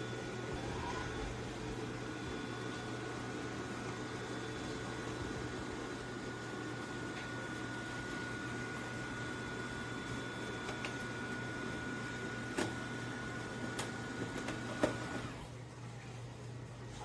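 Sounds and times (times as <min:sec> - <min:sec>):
robot vacuum humming: 0:00.0 - 0:15.5.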